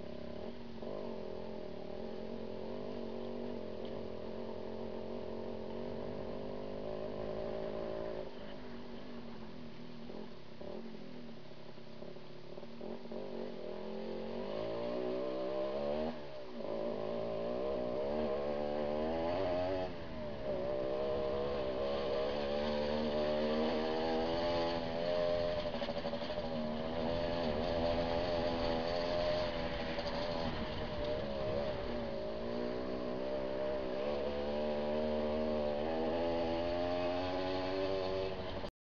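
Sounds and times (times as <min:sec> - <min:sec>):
motorcycle engine revving: 0:00.0 - 0:11.3, 0:12.0 - 0:38.7.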